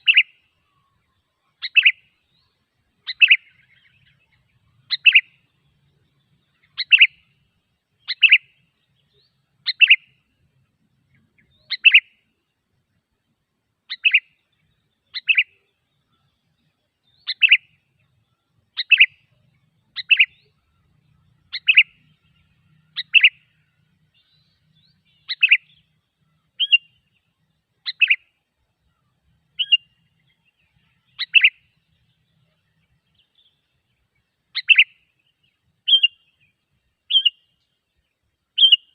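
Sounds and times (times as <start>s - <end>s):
bird chirping calls: 0.0s - 12.3s, 13.8s - 38.9s.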